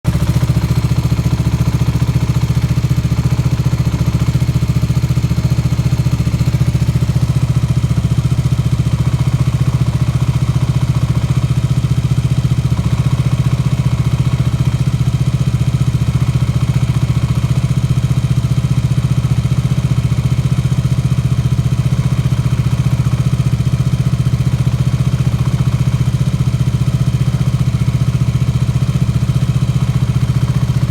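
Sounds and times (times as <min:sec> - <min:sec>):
motorcycle engine idling: 0:00.1 - 0:30.9.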